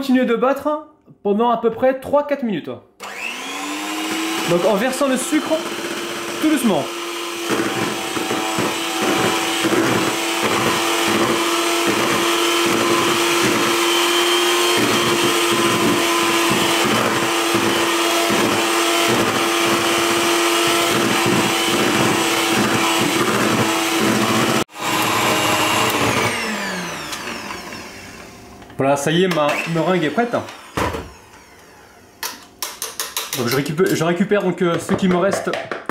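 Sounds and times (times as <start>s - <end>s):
electric hand mixer whining: 3.0s - 32.6s.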